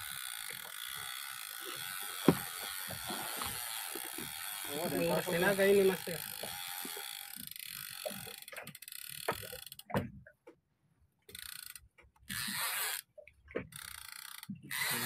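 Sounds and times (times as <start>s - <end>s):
fishing reel gear clicking: 0.0s - 9.9s, 11.3s - 13.1s, 13.7s - 15.0s.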